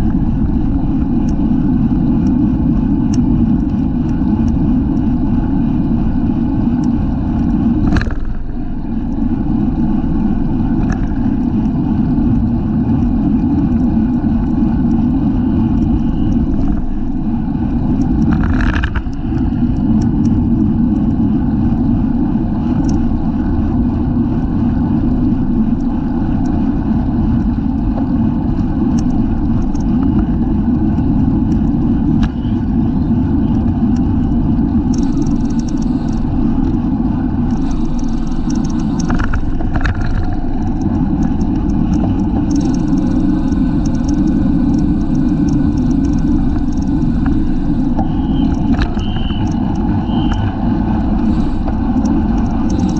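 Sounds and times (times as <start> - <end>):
wind rush over microphone: 0.0 - 52.9.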